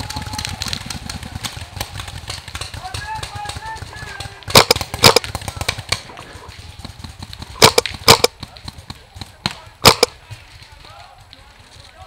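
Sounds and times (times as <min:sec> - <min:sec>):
paintball markers firing: 0:00.0 - 0:11.4.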